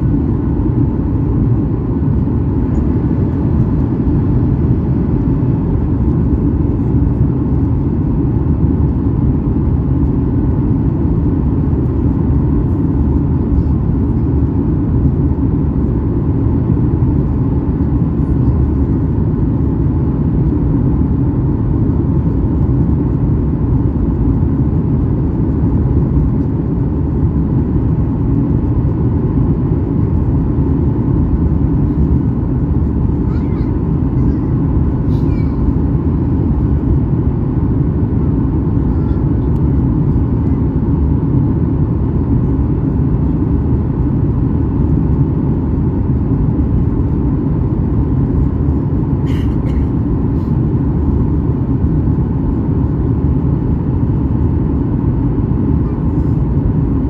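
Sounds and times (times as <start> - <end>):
airliner cabin airflow and engine rush: 0.0 - 57.0.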